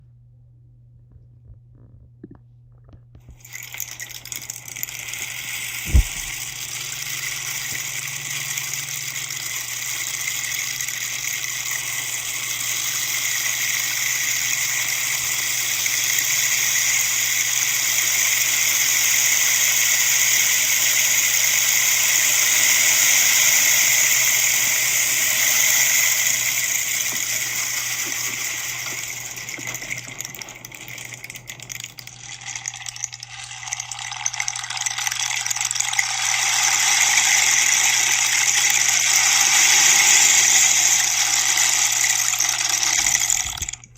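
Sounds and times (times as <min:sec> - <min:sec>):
rainstick trickling: 0:03.3 - 0:43.9.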